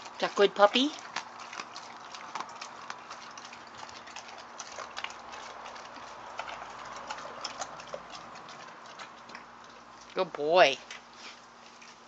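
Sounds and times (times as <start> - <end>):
dog crunching bones: 0.0 - 12.0.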